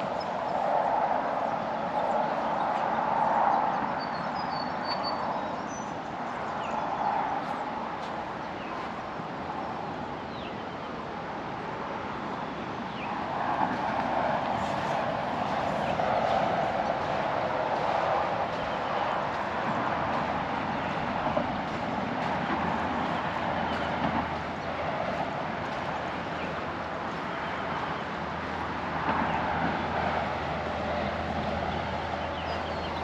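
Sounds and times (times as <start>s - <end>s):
road traffic rushing by: 0.0s - 33.0s.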